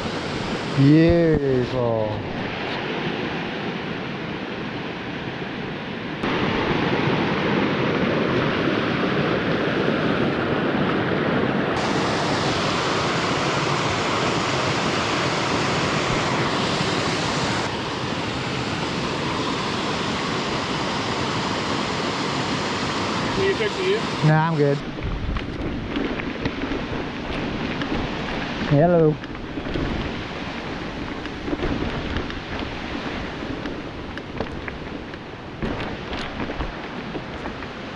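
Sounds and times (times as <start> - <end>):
water rushing: 0.0 - 37.9.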